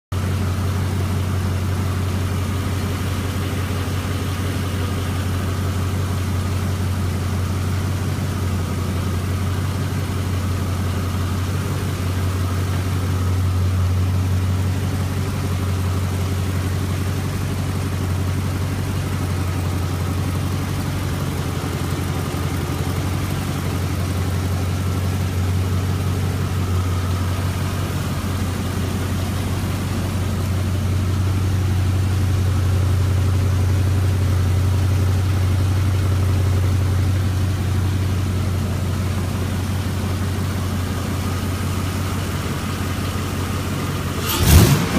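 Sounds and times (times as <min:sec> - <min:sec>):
engine idling: 0:00.1 - 0:44.9.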